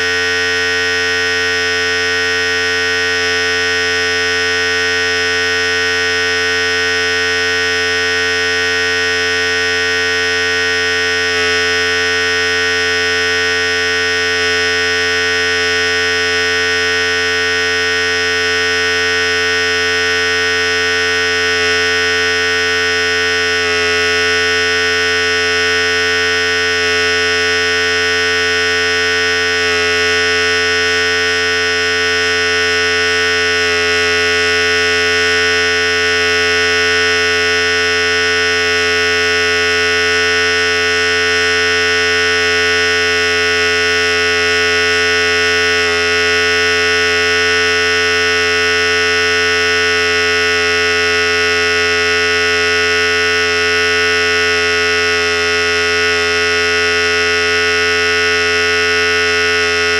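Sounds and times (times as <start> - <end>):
electric hair clipper buzzing: 0.0 - 59.9.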